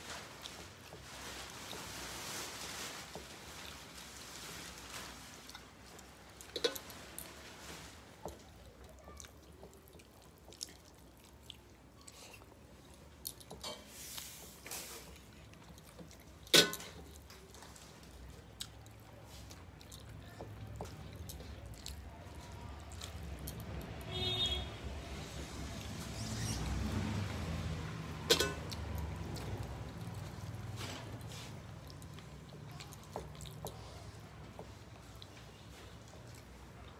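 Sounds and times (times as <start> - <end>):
chewing and lip smacks: 5.3 - 24.1, 25.6 - 36.9.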